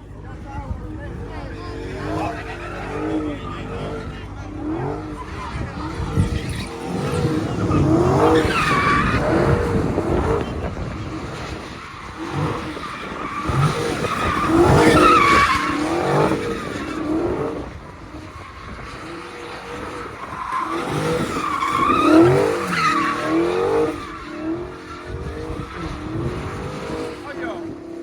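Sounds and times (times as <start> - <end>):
car tyres squealing: 0.0 - 28.0.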